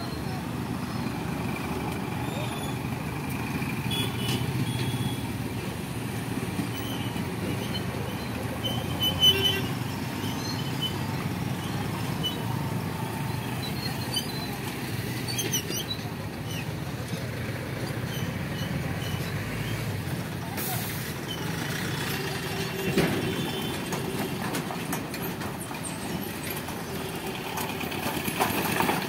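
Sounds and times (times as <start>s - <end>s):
auto-rickshaw engine: 0.0s - 29.0s
bus running at low speed: 0.0s - 29.0s
low traffic rumble: 0.0s - 29.0s.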